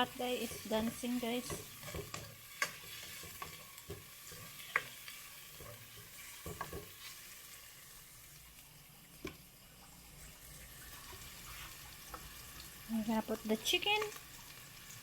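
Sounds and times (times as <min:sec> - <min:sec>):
garlic sizzling in oil: 0:00.0 - 0:15.0.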